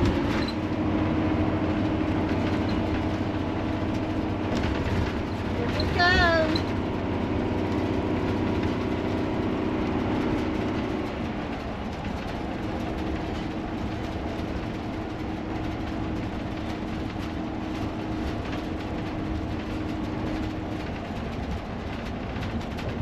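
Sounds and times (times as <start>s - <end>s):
constant hum: 0.0s - 23.0s
road and drivetrain noise: 0.0s - 23.0s.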